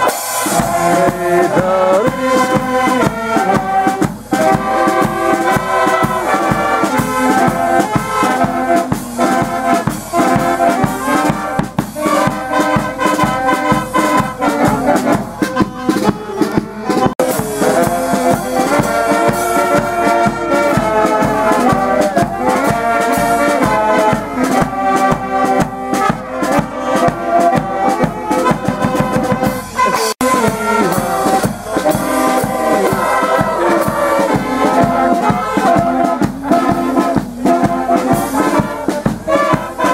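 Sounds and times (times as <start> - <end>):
brass band music: 0.0 - 39.9.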